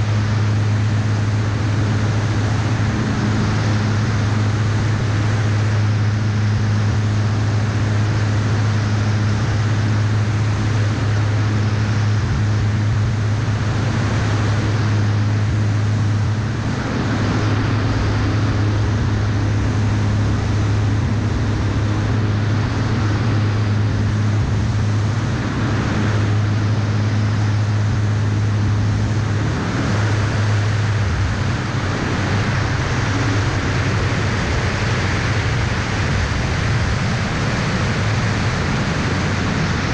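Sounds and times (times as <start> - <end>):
aircraft engine and propeller droning: 0.0 - 39.9
wind rush over microphone: 0.0 - 39.9.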